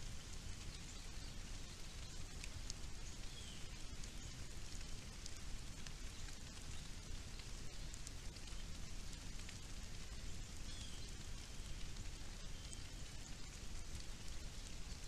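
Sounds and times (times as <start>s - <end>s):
faint ticks: 0.0s - 15.0s
outdoor background hiss: 0.0s - 15.0s.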